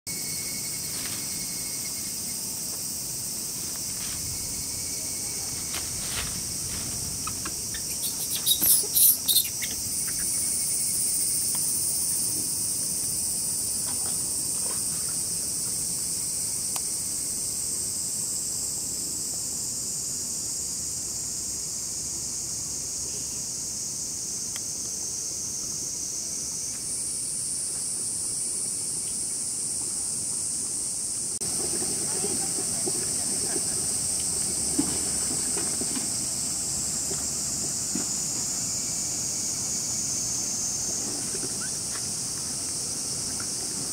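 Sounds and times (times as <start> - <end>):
insect loud pulsing bursts: 0.1 - 27.6, 30.4 - 43.9
cicadas chorus: 0.1 - 43.9.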